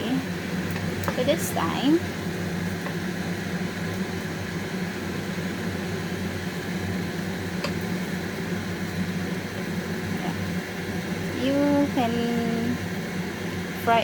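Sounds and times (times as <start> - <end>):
bread frying in butter: 0.0 - 14.0
low hum with hiss: 0.0 - 14.0.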